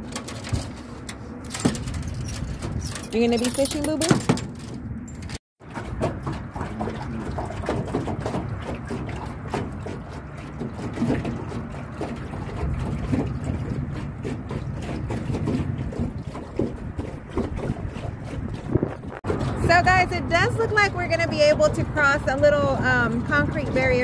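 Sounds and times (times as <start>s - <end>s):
water splashing against boat hull: 0.0s - 24.0s.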